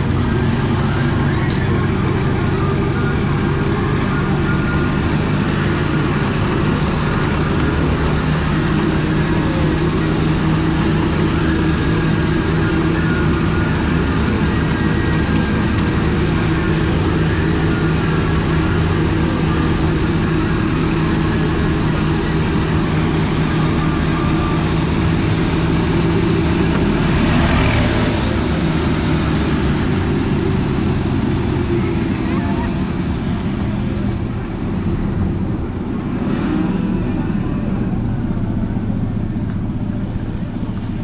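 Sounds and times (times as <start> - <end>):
ride train running: 0.0 - 41.0
rush of noise: 0.0 - 41.0.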